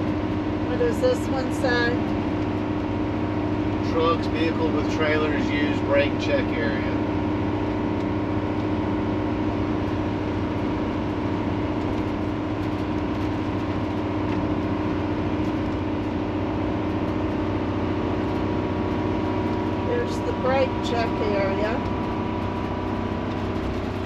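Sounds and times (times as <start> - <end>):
road and engine noise: 0.0 - 24.0.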